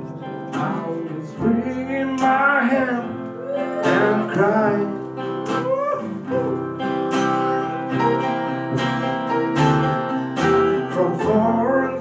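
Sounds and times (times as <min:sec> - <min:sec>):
blues band playing: 0:00.0 - 0:12.0
guitar: 0:00.0 - 0:12.0.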